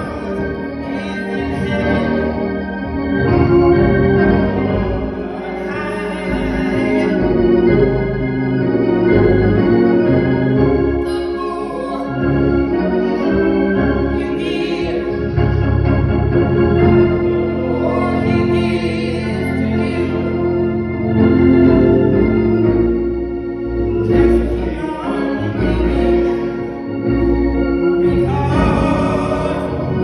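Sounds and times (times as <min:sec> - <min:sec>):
church organ chords: 0:00.0 - 0:30.0.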